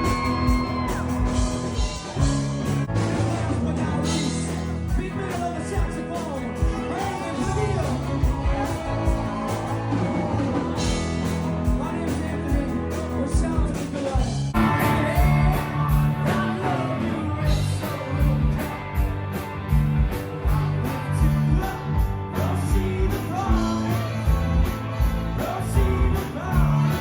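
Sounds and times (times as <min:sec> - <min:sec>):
rock music with singer and guitar: 0:00.0 - 0:27.0.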